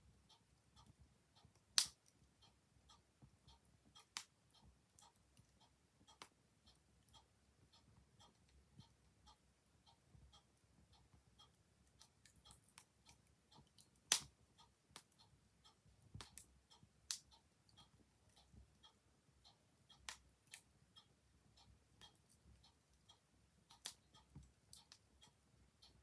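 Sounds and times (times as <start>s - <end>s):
clock ticking: 0.0s - 26.0s.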